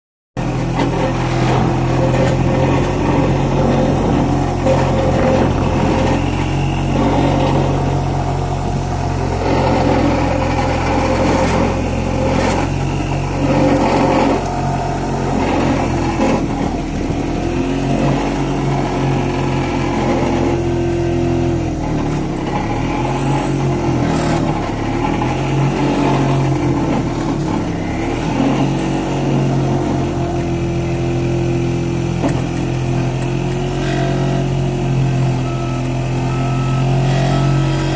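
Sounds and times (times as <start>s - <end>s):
diesel engine: 0.4s - 37.9s
vibratory pile driver humming: 0.4s - 37.9s.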